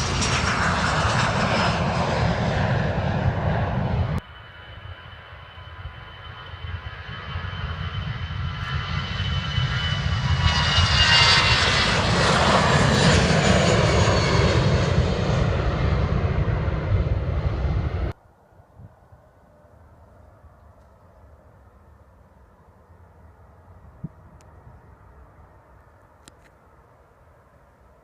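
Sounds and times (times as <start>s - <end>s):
airliner engines whining: 0.0s - 28.0s.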